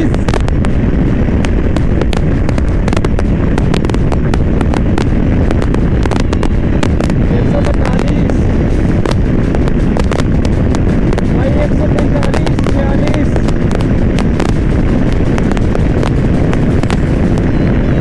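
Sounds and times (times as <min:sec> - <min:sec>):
crackling pops: 0:00.0 - 0:18.0
wind buffeting microphone: 0:00.0 - 0:18.0.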